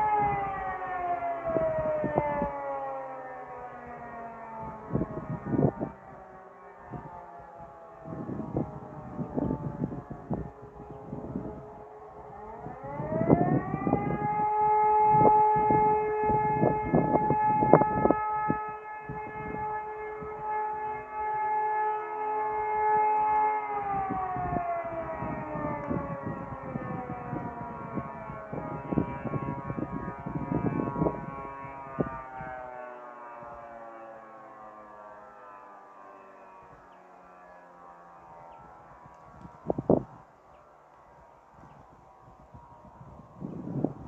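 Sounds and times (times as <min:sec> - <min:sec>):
civil defence siren: 0:00.0 - 0:44.0.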